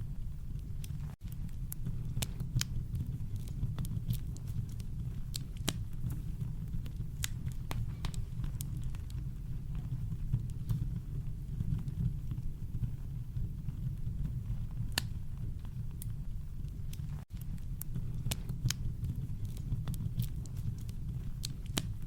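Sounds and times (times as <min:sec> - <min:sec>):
campfire crackling: 0:00.1 - 0:22.0.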